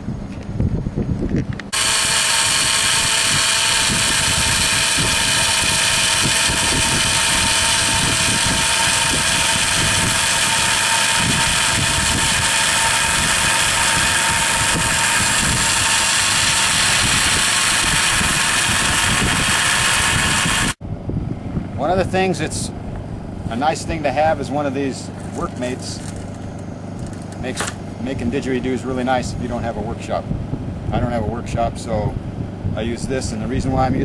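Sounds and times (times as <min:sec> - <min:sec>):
rotary tool cutting whine: 0:01.4 - 0:20.8, 0:23.5 - 0:32.0.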